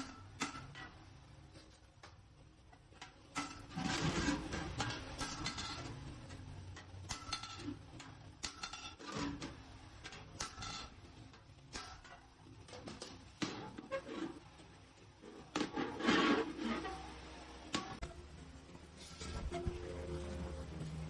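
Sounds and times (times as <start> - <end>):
tools tapping and scraping sheet metal: 0.0 - 18.2, 19.0 - 19.8.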